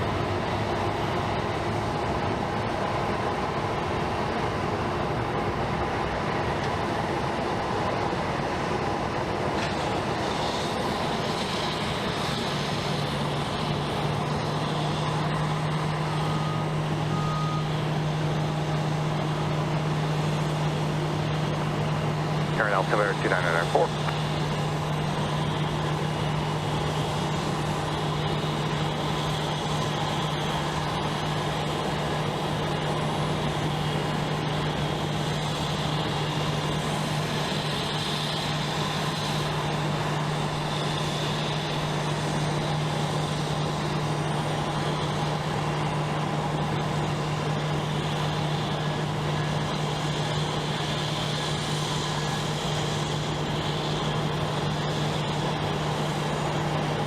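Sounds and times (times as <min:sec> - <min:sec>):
jet engine hum with hiss: 0:00.0 - 0:57.0.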